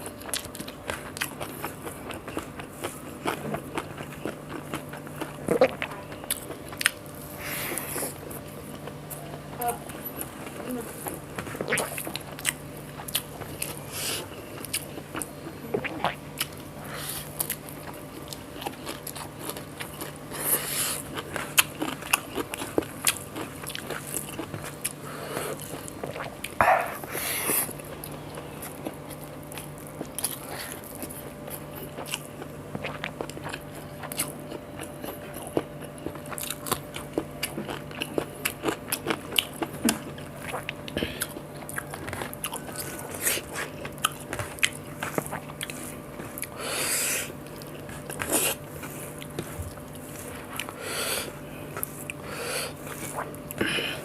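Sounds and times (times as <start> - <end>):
food crunch: 0.0 - 27.1, 27.7 - 46.6
person chewing food: 0.0 - 54.0
steady low hum: 0.0 - 54.0.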